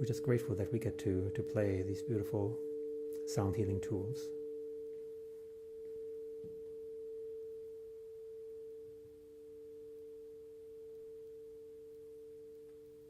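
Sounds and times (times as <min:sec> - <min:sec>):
singing bowls ringing: 0:00.0 - 0:13.0.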